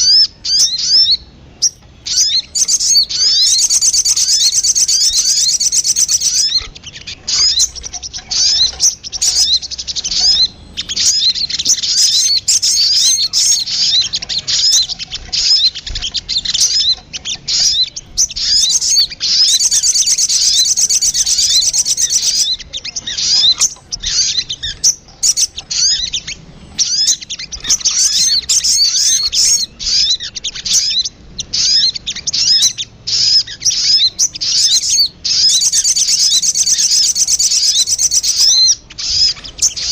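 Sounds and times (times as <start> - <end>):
bird high rapid chirps: 0.0 - 39.9
bird sharp chips: 0.0 - 39.9.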